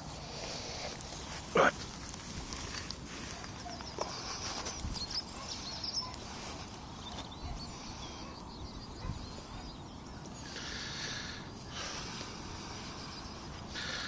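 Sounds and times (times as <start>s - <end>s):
low outdoor background noise: 0.0s - 14.0s
small birds chirping: 0.0s - 14.0s.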